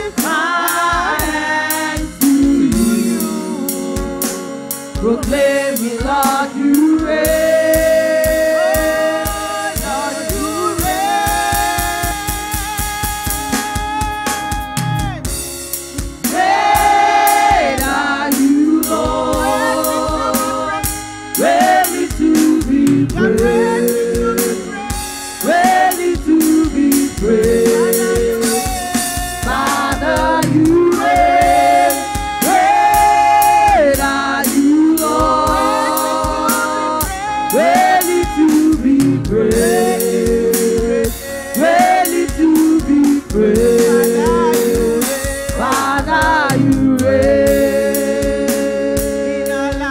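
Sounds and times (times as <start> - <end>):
women singing in harmony: 0.0 - 12.2, 16.2 - 49.9
drum beat: 0.0 - 49.9.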